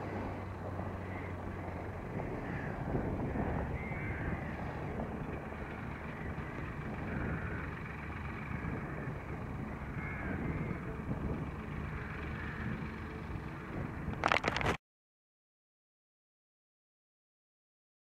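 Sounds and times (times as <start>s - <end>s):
tractor engine running: 0.0s - 14.8s.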